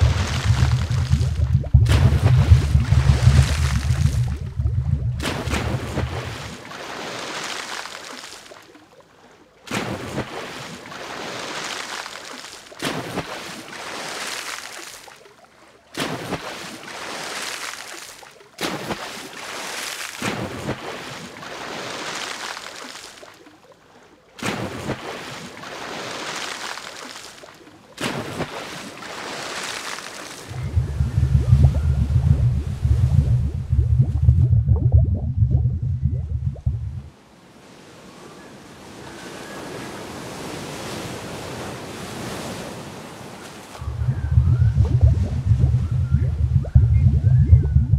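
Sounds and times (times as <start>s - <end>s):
small waves washing over sand: 0.0s - 4.6s, 5.2s - 32.0s, 37.1s - 44.2s.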